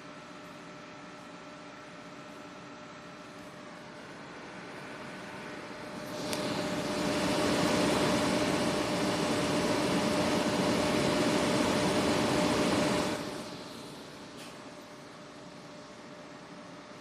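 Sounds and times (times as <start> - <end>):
cooling fan rushing air: 0.0 - 17.0.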